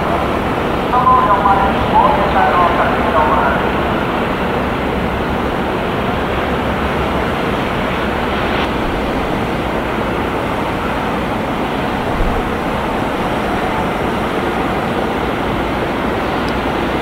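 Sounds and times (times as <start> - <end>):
low rumble: 0.0 - 14.1
sea: 0.0 - 17.0
wind: 0.0 - 17.0.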